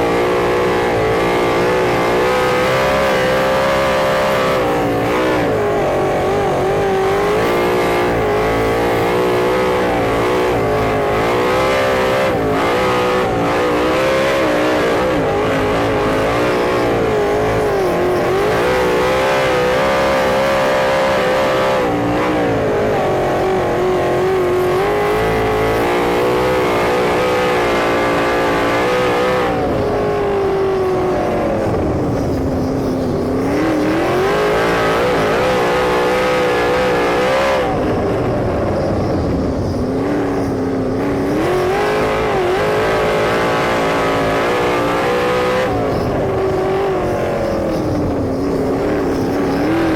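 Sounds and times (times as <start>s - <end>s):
racing car engine: 0.0s - 49.9s.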